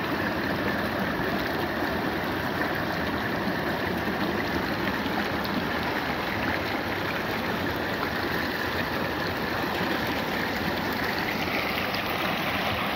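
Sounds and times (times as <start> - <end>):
creek rushing over cobbles: 0.0 - 12.9.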